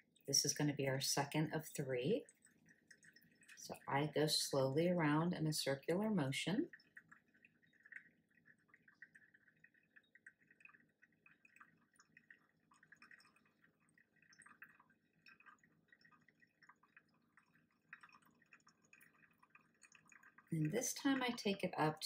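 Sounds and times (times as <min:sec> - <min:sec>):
water trickling onto coffee grounds: 0:00.0 - 0:22.0.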